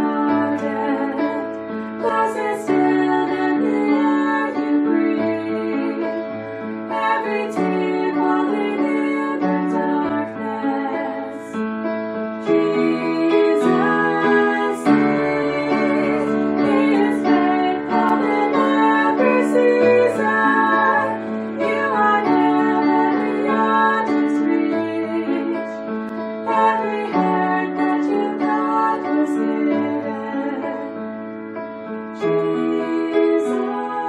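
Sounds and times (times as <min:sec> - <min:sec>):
piano chords: 0:00.0 - 0:34.0.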